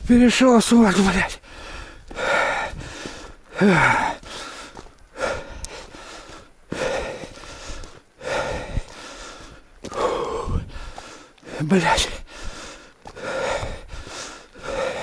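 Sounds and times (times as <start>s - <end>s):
man breathing hard: 1.4s - 15.0s.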